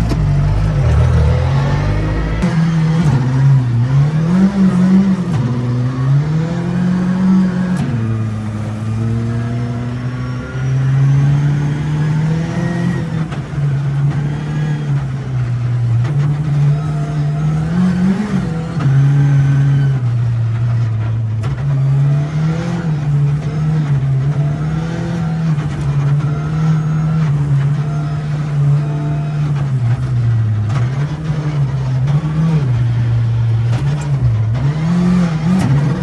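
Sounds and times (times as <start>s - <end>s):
car engine revving through gears: 0.0s - 36.0s.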